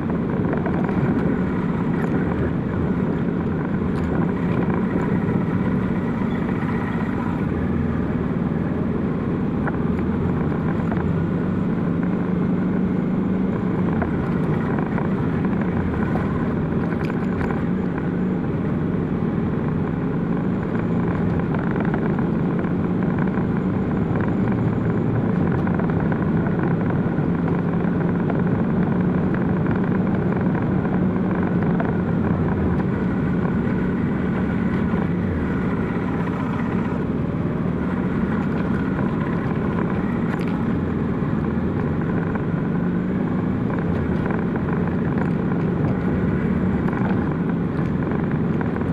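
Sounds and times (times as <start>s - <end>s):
motorcycle engine running: 0.0s - 48.9s
road noise: 0.0s - 48.9s.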